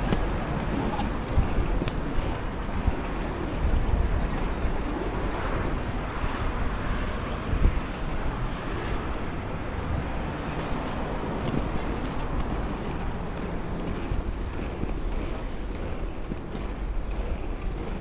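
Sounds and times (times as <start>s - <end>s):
inline skate wheels rolling: 0.0s - 18.0s
wind on microphone: 0.0s - 18.0s.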